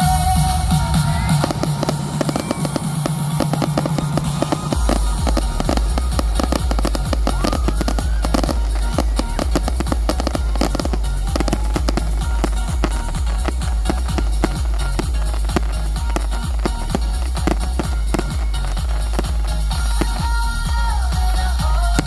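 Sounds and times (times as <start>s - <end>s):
deep bass line: 0.0s - 22.0s
fireworks crackling and popping: 0.0s - 22.0s
loud show music: 0.0s - 22.0s.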